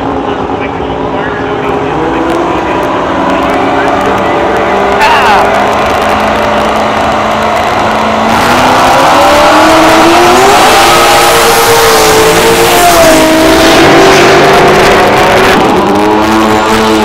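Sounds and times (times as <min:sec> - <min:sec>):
drag car engine at full throttle: 0:00.0 - 0:17.0
engine revving in burnout: 0:00.0 - 0:17.0
low engine drone: 0:00.0 - 0:17.0.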